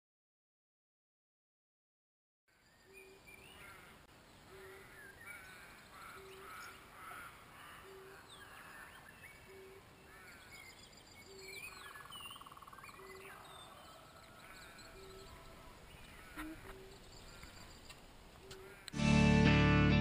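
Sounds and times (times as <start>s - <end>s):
birds chirping: 2.6s - 19.0s.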